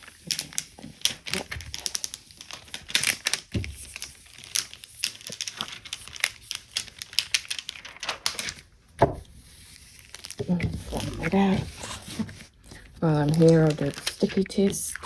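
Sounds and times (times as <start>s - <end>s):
plastic sheet crinkling: 0.0s - 8.7s, 9.3s - 15.0s.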